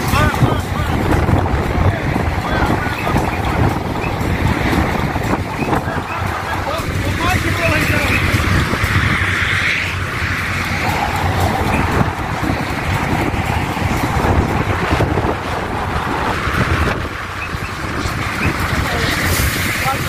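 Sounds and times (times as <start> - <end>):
motor running: 0.0 - 20.0.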